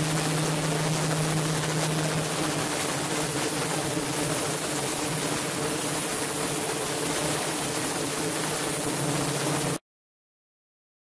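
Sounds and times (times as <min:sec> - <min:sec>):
ultrasonic cleaner hum: 0:00.0 - 0:09.8.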